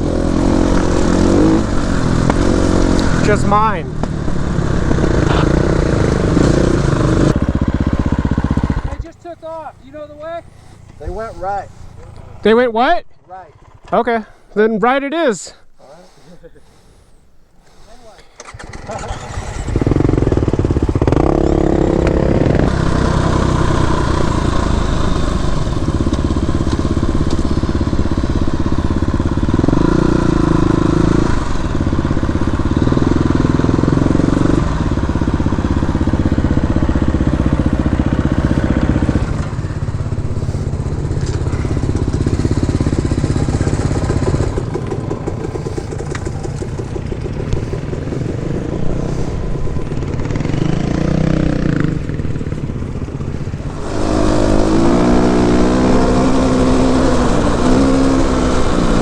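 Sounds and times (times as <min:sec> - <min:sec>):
dirt bike engine revving: 0:00.0 - 0:17.1, 0:17.7 - 0:59.0.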